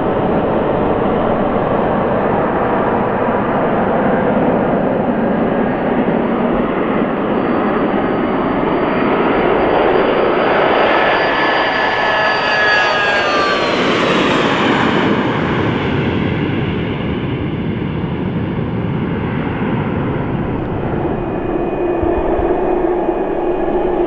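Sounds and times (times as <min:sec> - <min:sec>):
jet engine whine: 0:00.0 - 0:24.0
jet engines roaring at takeoff: 0:00.0 - 0:24.0.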